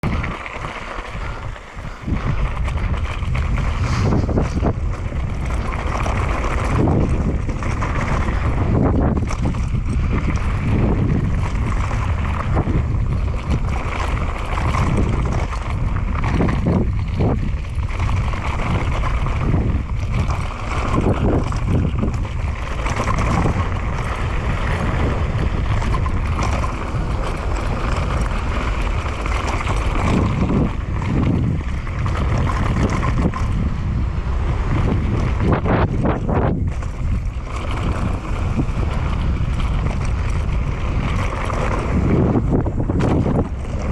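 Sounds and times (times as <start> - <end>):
bike rattling and knocking: 0.0 - 43.9
tyres rumbling on dirt: 0.0 - 43.9
wind buffeting microphone: 0.0 - 43.9.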